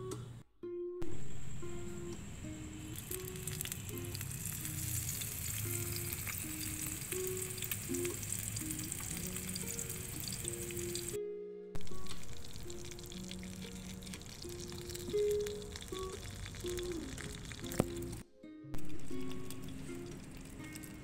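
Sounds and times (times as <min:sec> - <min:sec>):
soft background music: 0:00.0 - 0:21.0
fish frying in hot oil: 0:02.9 - 0:11.2, 0:11.8 - 0:18.2, 0:18.8 - 0:21.0.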